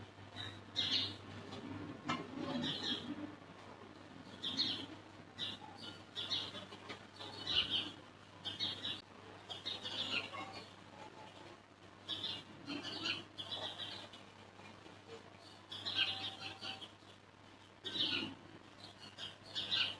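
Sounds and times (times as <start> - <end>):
small birds chirping: 0.3 - 1.2, 2.5 - 3.2, 4.2 - 19.9.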